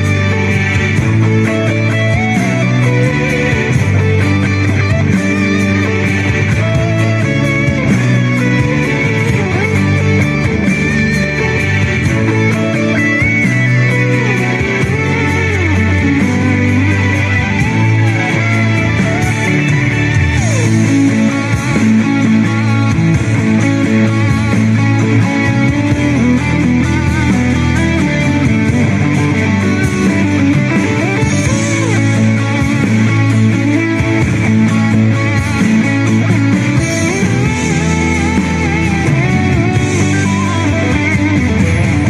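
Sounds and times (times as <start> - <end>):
instrumental rock music: 0.0 - 42.0.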